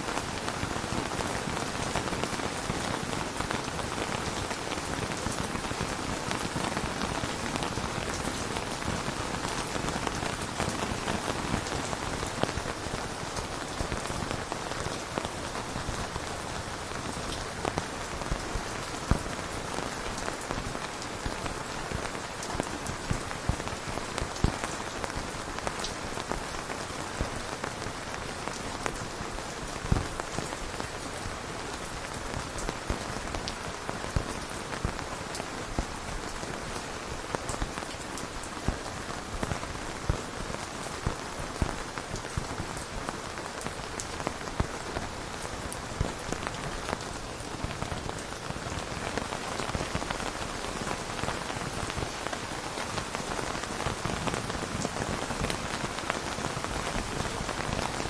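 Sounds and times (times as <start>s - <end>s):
raindrops ticking close by: 0.0s - 58.0s
steady rain hiss: 0.0s - 58.0s.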